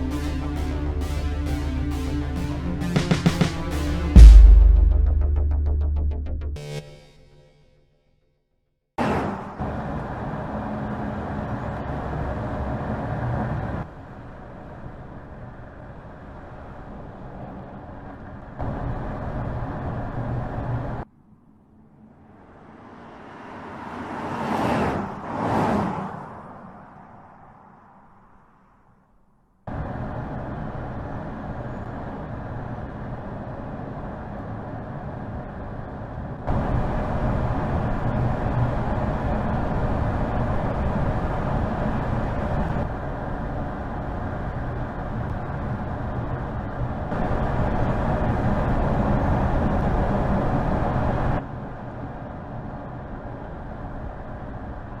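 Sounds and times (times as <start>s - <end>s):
car engine and road noise: 0.0s - 6.8s, 9.0s - 55.0s.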